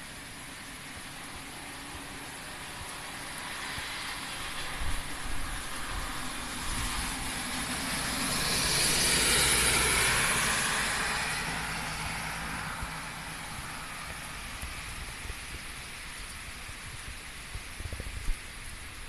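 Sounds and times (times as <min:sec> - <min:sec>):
rain: 0:00.0 - 0:19.0
vehicle passing on wet road: 0:00.0 - 0:19.0.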